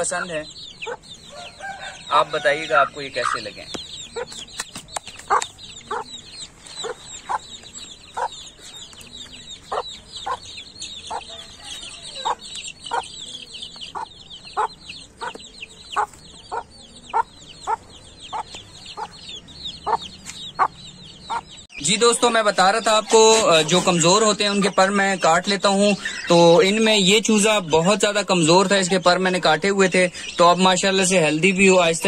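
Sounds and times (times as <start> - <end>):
chicks peeping: 0.0 - 32.0
hen clucking: 0.0 - 32.0.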